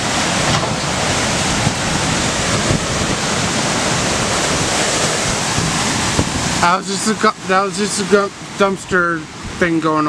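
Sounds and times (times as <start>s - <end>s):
wind and rain blowing: 0.0s - 10.0s
wind buffeting microphone: 0.0s - 10.0s.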